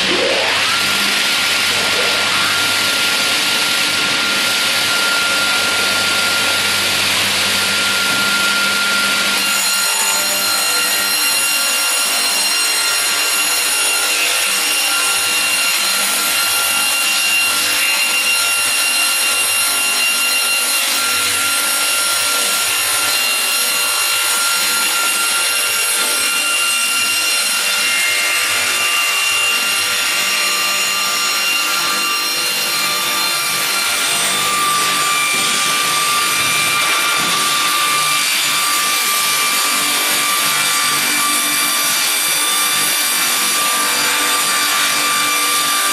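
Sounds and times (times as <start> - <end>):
sawing machine cutting wood: 0.0 - 45.9.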